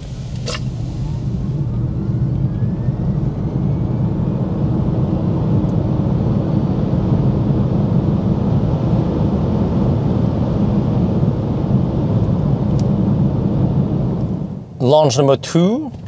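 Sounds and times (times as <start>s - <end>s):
wind noise: 0.0s - 14.8s
road and tyre noise: 0.0s - 16.0s.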